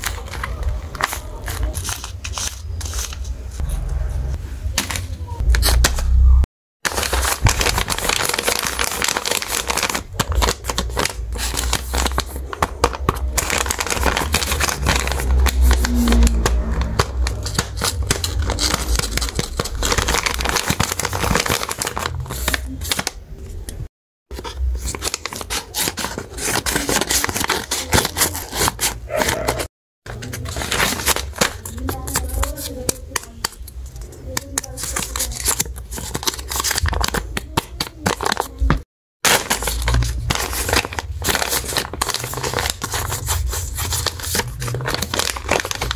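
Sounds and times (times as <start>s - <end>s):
paper crinkling and rustling: 0.0s - 3.8s, 6.8s - 45.9s.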